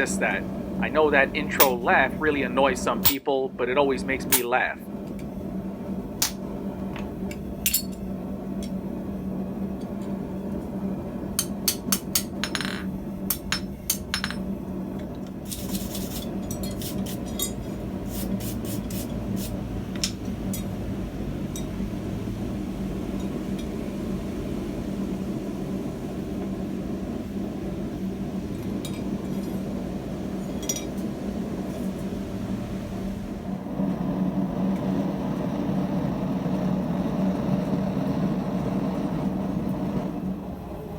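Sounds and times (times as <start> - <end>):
low machine hum: 0.0 - 40.9.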